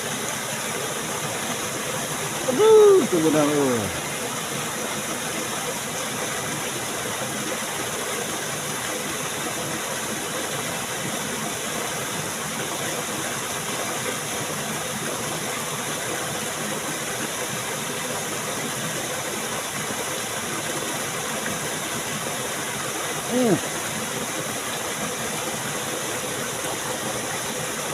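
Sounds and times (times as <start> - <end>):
flowing stream water rushing: 0.0 - 27.9.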